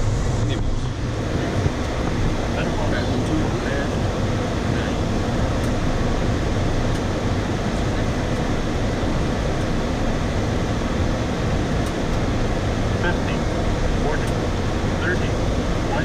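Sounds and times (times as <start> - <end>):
airflow and engine noise: 0.0 - 16.0.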